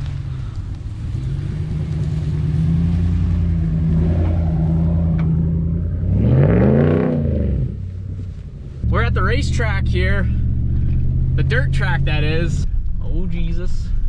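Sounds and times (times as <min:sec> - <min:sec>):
pickup truck engine revving: 0:00.0 - 0:08.1, 0:08.8 - 0:14.0.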